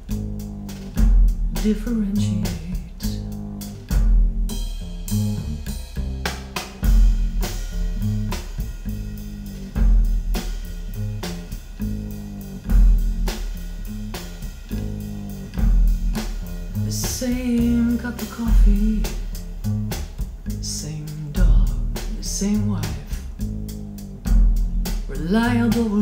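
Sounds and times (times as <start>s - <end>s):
instrumental jazz over loudspeakers: 0.0s - 26.0s.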